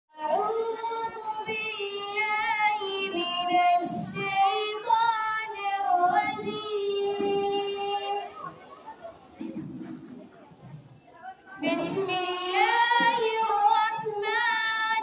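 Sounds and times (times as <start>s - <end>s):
girl reciting melodically: 0.1s - 8.8s, 11.3s - 15.0s.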